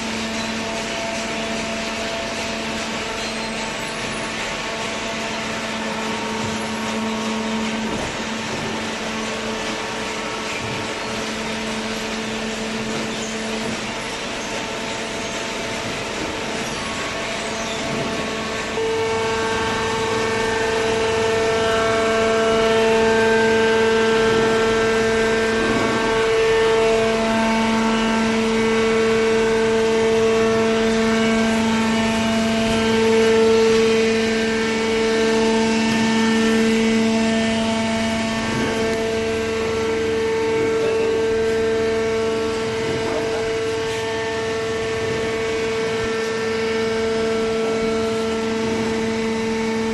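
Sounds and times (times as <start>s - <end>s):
hydraulic motor and pump whining: 0.0s - 49.9s.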